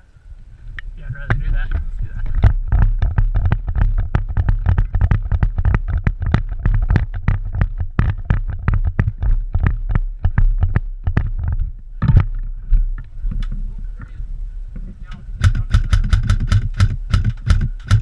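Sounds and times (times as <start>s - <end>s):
low microphone rumble: 0.0s - 18.0s
knocks and rustles of movement: 0.3s - 18.0s.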